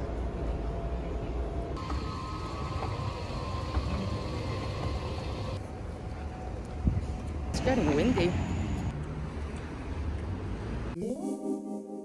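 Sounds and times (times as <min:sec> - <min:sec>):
railcar rumble: 0:00.0 - 0:10.8.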